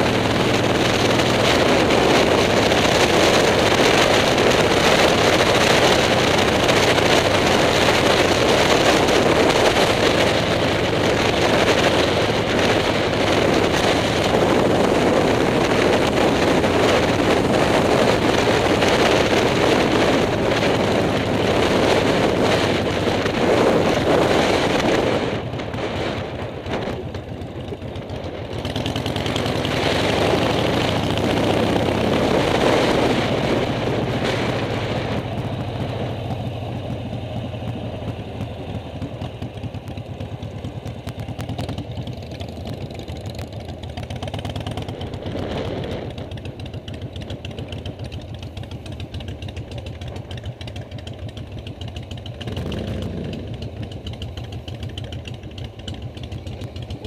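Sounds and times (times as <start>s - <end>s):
wind rushing over microphone: 0.0s - 49.0s
motorcycle engine running: 0.0s - 57.0s.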